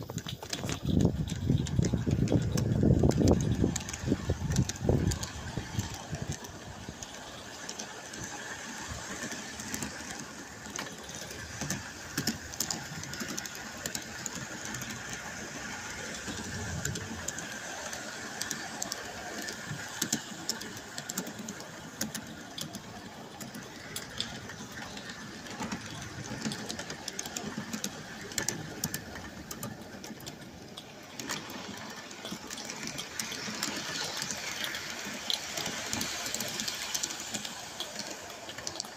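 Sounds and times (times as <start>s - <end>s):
model steam train clattering: 0.0s - 38.9s.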